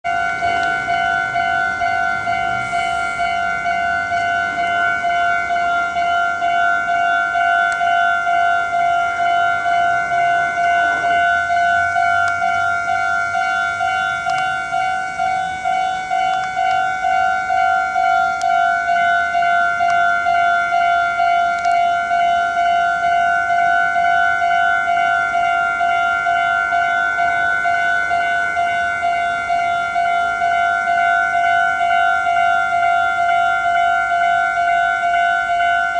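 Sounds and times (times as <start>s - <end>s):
level crossing warning bell: 0.0s - 35.9s.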